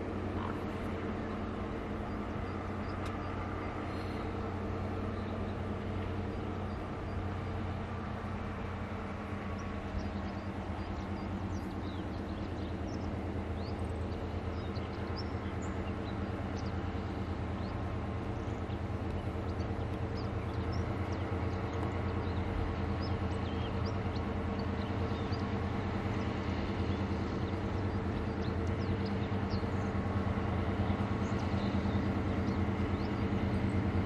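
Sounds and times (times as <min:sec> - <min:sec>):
birds chirping: 0:00.0 - 0:34.0
diesel locomotive engine humming: 0:00.0 - 0:34.0.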